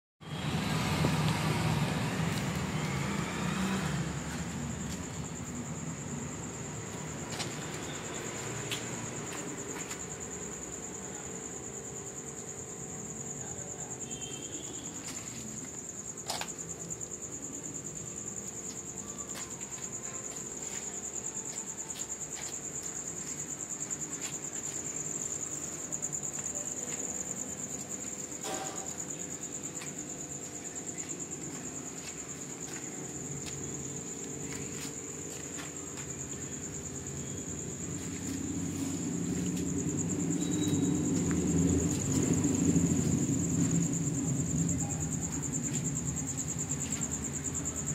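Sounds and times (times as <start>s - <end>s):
crickets trilling: 0.2s - 47.9s.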